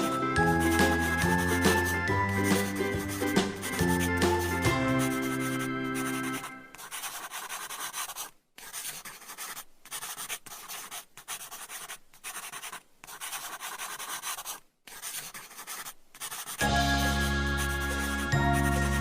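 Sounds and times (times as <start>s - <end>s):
drawing tool scratching paper: 0.5s - 19.0s.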